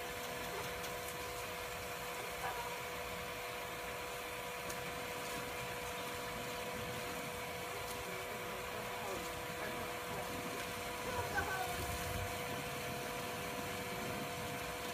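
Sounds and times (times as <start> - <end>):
small motor humming: 0.0 - 14.9.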